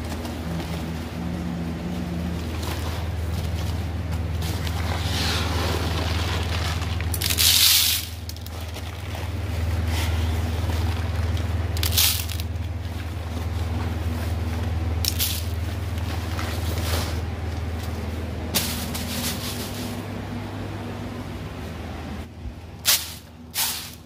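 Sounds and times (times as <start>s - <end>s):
plastic sacks rustling: 0.0s - 20.4s
low hum: 0.0s - 24.0s.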